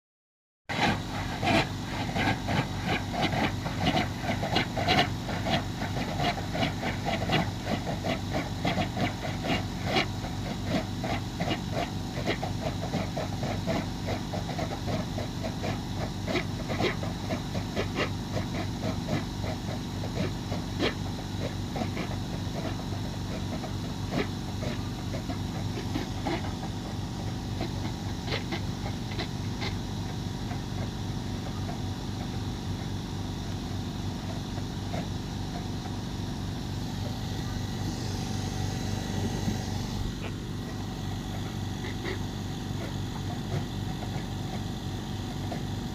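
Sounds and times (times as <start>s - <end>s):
foam generator machine humming: 0.7s - 45.9s.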